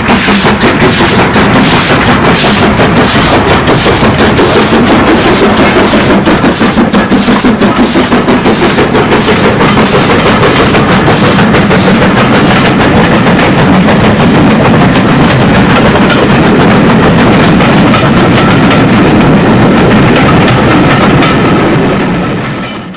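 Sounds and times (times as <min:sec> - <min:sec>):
coaches rumbling and clattering past: 0:00.0 - 0:22.9
steam locomotive exhaust beats: 0:00.0 - 0:22.9.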